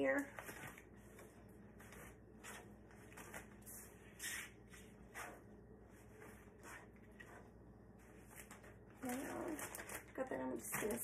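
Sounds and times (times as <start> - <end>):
plastic bag rustling: 0.0 - 3.9, 5.1 - 11.0.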